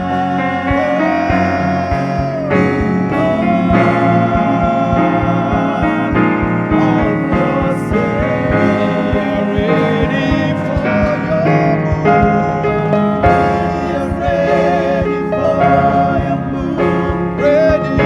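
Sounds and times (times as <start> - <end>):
keyboard chords: 0.0 - 18.0
kick drum beat: 0.0 - 18.0
sliding melody line: 0.0 - 18.0.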